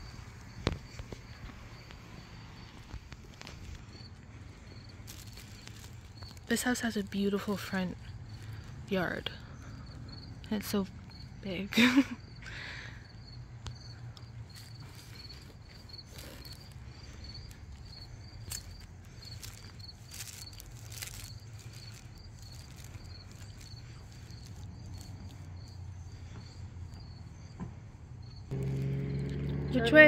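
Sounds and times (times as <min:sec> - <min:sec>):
cricket chirping: 0:00.0 - 0:30.0
low steady hum: 0:00.0 - 0:30.0.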